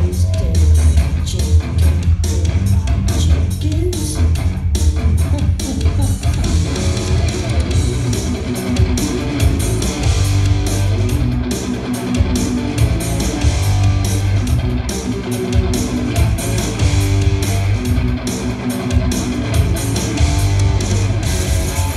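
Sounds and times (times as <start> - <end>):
deep bass: 0.0 - 21.9
loud electric guitar: 0.0 - 21.9.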